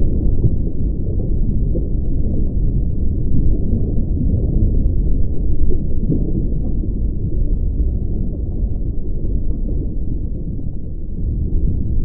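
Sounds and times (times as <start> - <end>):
underwater water rumble: 0.0 - 12.0.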